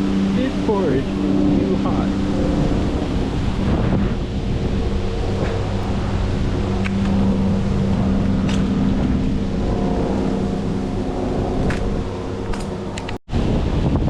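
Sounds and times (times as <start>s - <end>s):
motor humming: 0.0s - 13.2s
wind on microphone: 0.0s - 14.0s.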